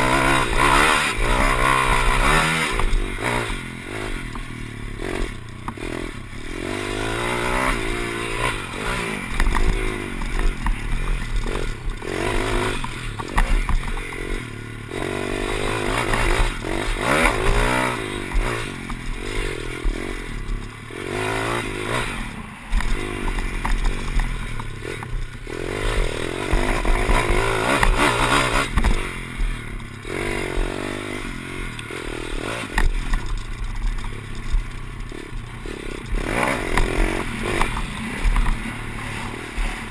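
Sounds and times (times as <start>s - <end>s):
bike rattling and knocking: 0.0s - 39.9s
motorbike engine revving: 0.0s - 39.9s.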